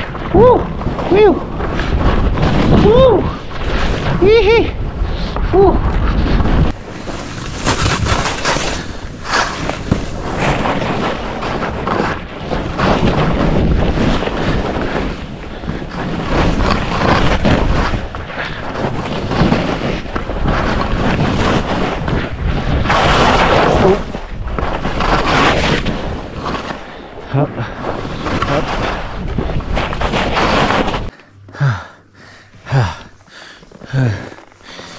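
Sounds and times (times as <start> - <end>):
skis scraping over snow: 0.0 - 31.2
wind buffeting microphone: 0.0 - 31.2.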